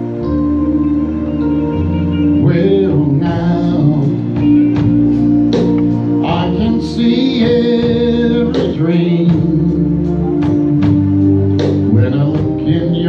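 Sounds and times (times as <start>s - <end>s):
person singing: 0.0s - 4.9s, 6.2s - 10.8s, 11.6s - 13.0s
guitar: 0.0s - 13.0s.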